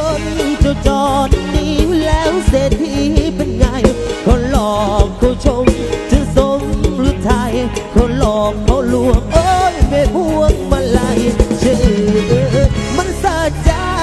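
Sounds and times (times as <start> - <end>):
deep bass: 0.0 - 14.0
person singing wavering melody: 0.0 - 14.0.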